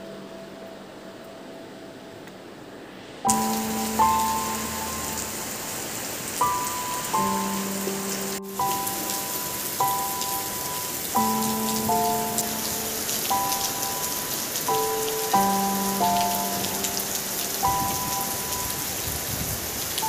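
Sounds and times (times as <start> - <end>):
slow melody of held notes: 0.0 - 20.0
heavy rain pouring on paving: 3.3 - 20.0.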